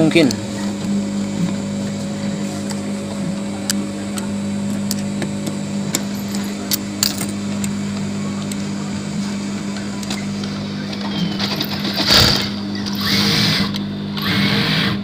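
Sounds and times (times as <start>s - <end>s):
steady low electric hum: 0.0s - 15.0s.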